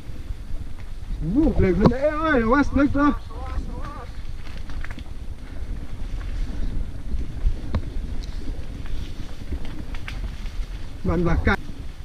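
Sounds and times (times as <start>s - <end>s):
bike clicks and rattles: 0.0s - 12.0s
bike tyre rumble on dirt: 0.0s - 12.0s
wind buffeting microphone: 0.0s - 12.0s.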